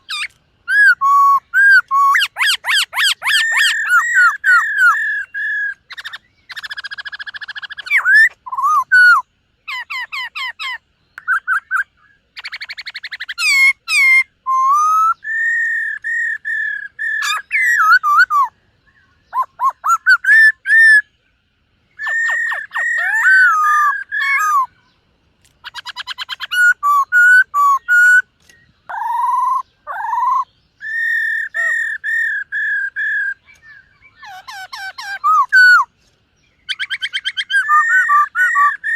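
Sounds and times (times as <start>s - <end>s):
bird singing whistled phrases: 0.0s - 21.1s, 22.0s - 24.9s, 25.6s - 35.9s, 36.6s - 38.9s.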